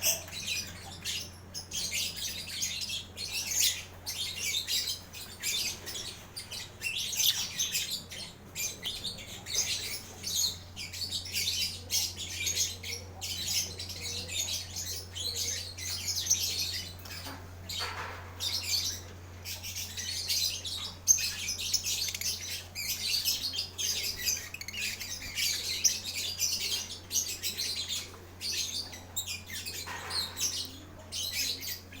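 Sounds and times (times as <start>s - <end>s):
birds chirping rapidly: 0.0s - 32.0s.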